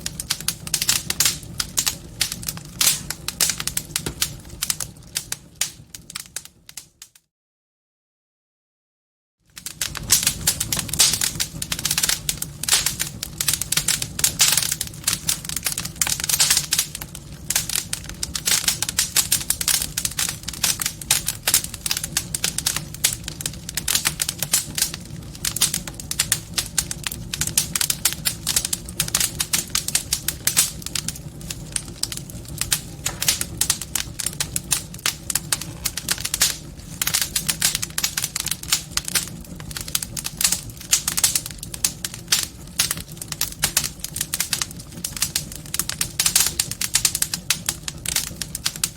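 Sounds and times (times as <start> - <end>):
wood fire crackling: 0.0 - 7.2, 9.5 - 48.9.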